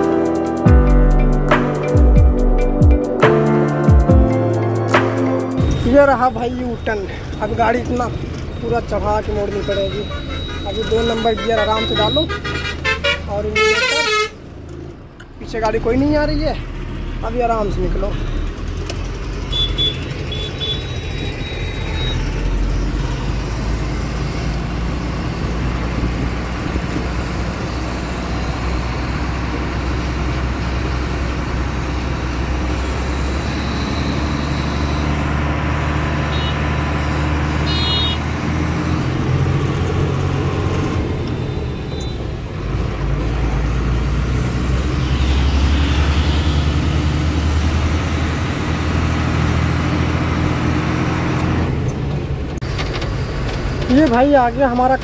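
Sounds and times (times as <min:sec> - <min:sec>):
diesel truck engine: 0:00.0 - 0:55.0.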